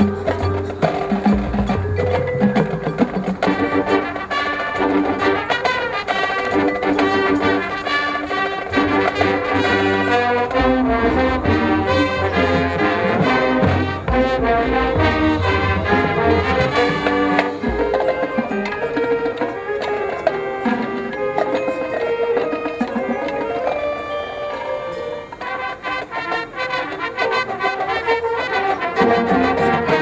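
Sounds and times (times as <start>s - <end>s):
marching band playing: 0.0s - 30.0s
brass: 2.5s - 30.0s.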